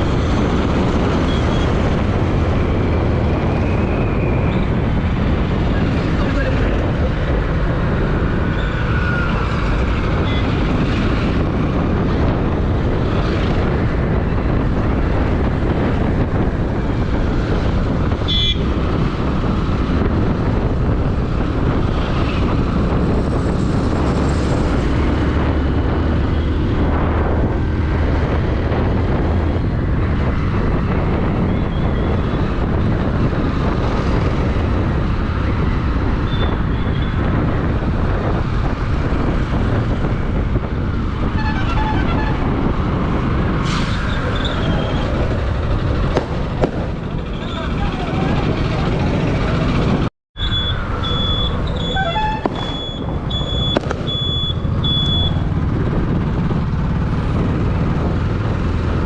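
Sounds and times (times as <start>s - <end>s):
vehicle rumble: 0.0s - 59.0s
wind noise: 0.0s - 59.0s.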